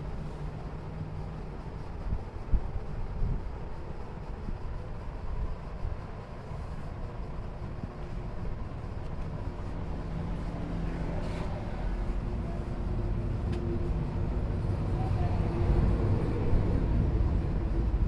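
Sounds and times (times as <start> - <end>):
low rumble of running machinery: 0.0 - 18.0.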